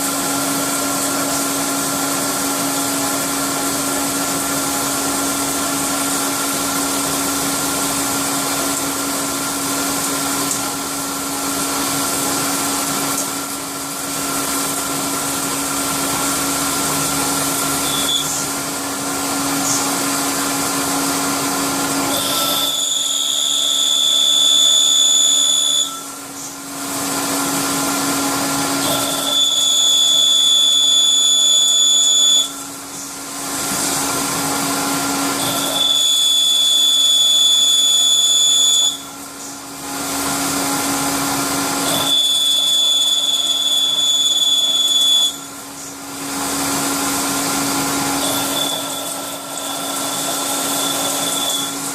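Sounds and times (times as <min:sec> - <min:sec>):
high-pitched whine: 0:00.0 - 0:27.4, 0:28.8 - 0:34.0, 0:35.2 - 0:39.6, 0:41.8 - 0:51.9
milling machine hum: 0:00.0 - 0:51.9.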